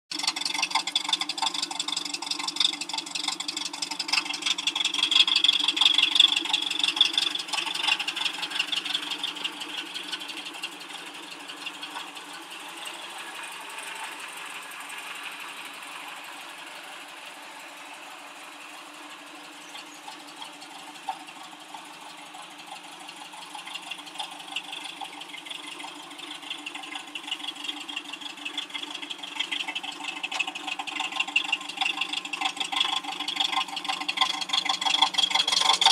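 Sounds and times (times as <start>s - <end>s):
car engine idling: 0.1s - 35.9s.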